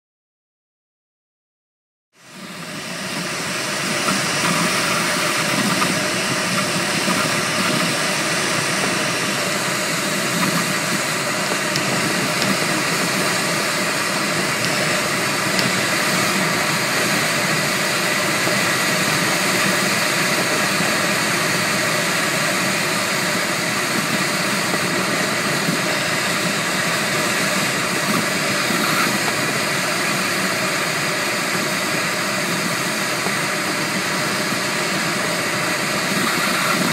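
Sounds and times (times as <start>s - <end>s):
rushing airflow in cockpit: 2.2s - 36.9s.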